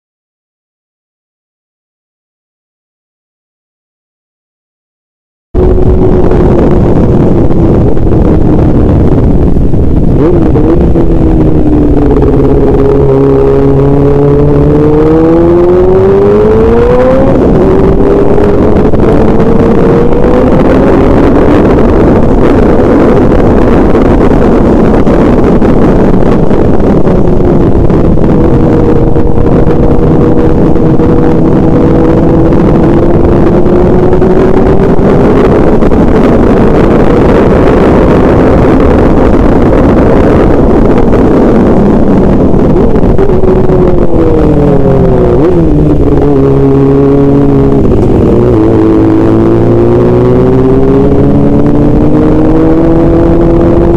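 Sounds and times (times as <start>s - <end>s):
loud rushing noise: 5.6s - 53.9s
vehicle engine running: 5.6s - 53.9s.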